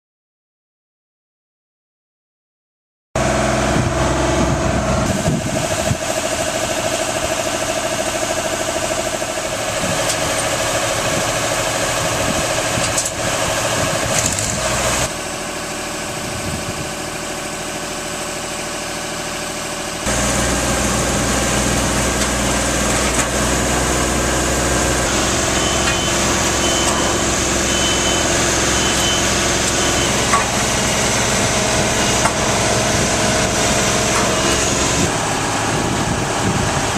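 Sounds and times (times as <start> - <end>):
engine running steadily: 3.2 - 36.9.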